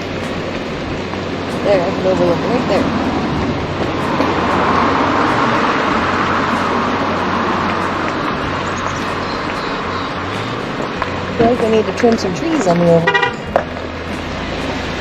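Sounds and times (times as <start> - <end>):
car road and wind noise: 0.0 - 15.0
low hum: 0.0 - 15.0.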